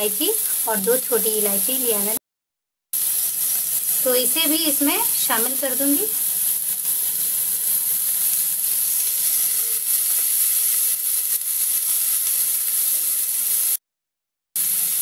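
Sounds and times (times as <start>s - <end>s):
food sizzling in a pan: 0.0s - 2.2s, 3.0s - 13.8s, 14.6s - 15.0s.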